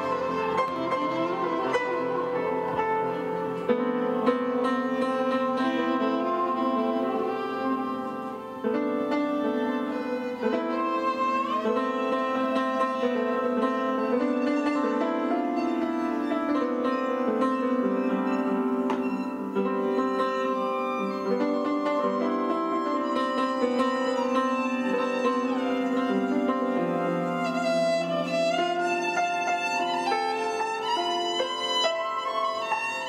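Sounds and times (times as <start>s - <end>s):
piano playing: 0.0s - 33.0s
violin playing: 0.0s - 33.0s.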